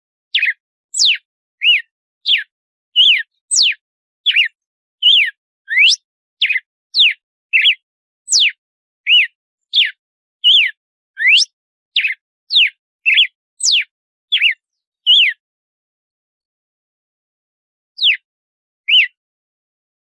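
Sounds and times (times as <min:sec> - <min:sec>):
bird singing whistled notes: 0:00.3 - 0:15.4, 0:18.0 - 0:19.2.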